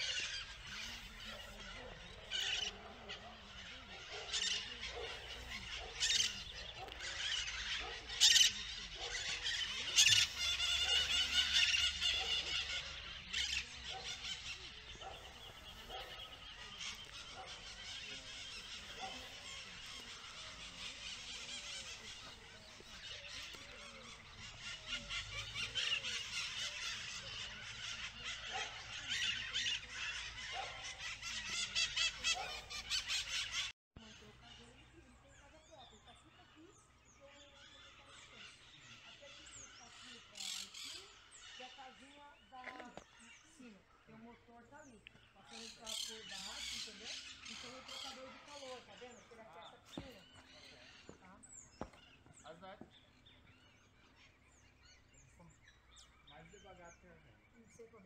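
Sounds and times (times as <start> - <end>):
birds calling and chirping: 0.0 - 58.0.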